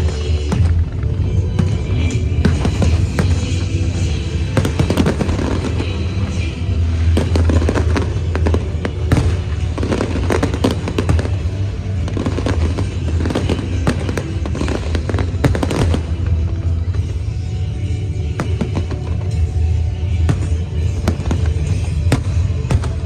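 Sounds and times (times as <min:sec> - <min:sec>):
fireworks bursting: 0:00.0 - 0:23.0
fireworks crackling: 0:00.0 - 0:23.0
music with low bass: 0:00.0 - 0:23.0.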